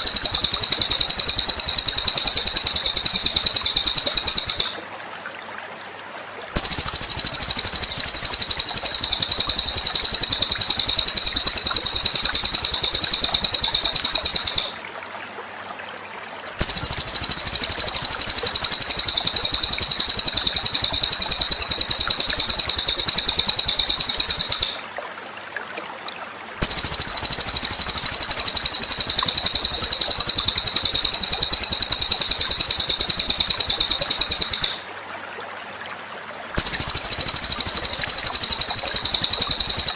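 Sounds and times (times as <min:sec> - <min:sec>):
songbird singing rapid high trill: 0:00.0 - 0:04.8, 0:06.6 - 0:14.8, 0:16.6 - 0:24.8, 0:26.6 - 0:34.8, 0:36.6 - 0:39.9.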